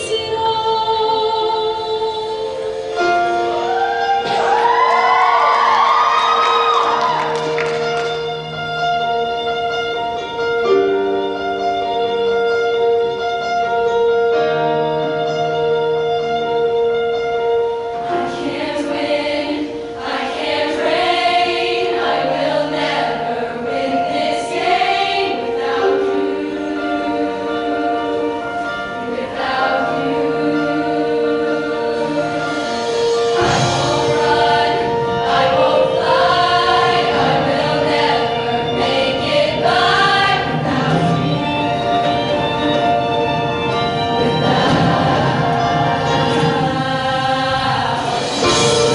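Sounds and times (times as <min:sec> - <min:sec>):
girls choir singing in harmony: 0:00.0 - 0:08.6, 0:18.0 - 0:48.9
instrumental accompaniment: 0:00.0 - 0:48.9.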